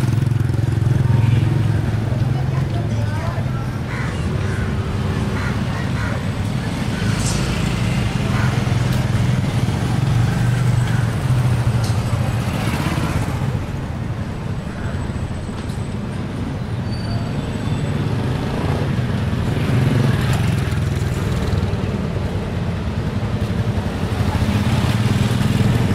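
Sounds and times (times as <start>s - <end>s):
traffic engines humming: 0.0s - 25.9s.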